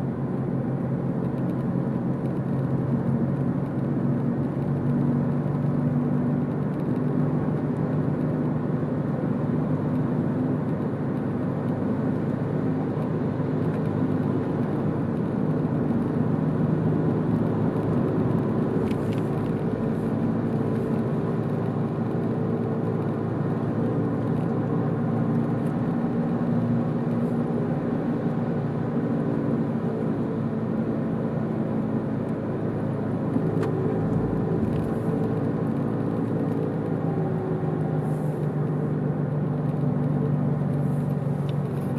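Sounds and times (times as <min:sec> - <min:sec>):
car engine and tyre hum: 0:00.0 - 0:41.9.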